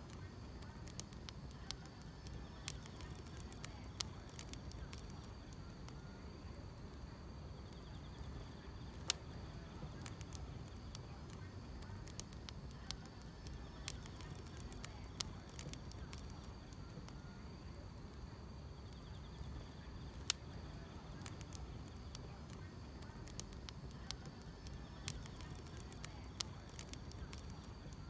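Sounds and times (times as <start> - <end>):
fire popping: 0.0 - 28.0
insects trilling: 0.0 - 28.0
wood fire crackling: 0.0 - 28.0.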